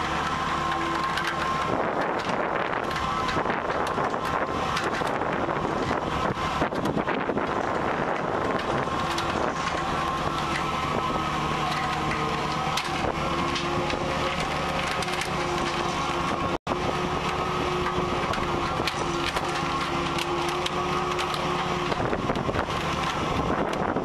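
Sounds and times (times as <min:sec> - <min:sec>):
deck machinery humming: 0:00.0 - 0:24.0
net gear creaking and clicking: 0:00.0 - 0:24.0.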